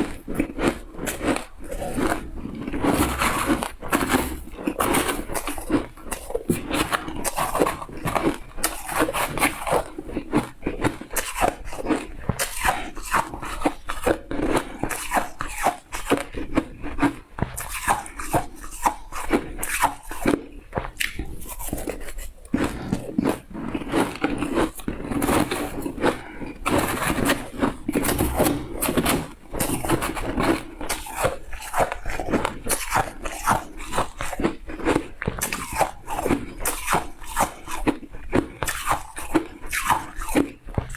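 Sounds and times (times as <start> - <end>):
chewing crunchy shaved ice: 0.0 - 40.9.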